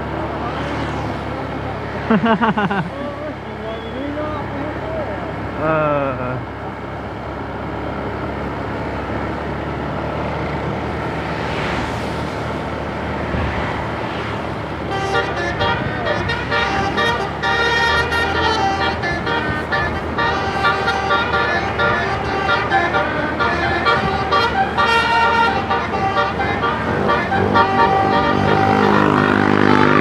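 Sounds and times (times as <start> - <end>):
musical bus horn: 0.0 - 13.6, 14.4 - 30.0
vehicle engine and road noise: 0.0 - 30.0.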